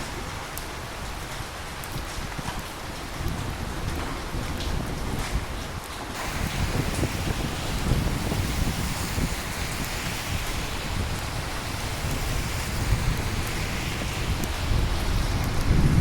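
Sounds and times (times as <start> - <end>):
heavy rain on hard surfaces: 0.0 - 16.0
low rumble of thunder: 2.4 - 16.0.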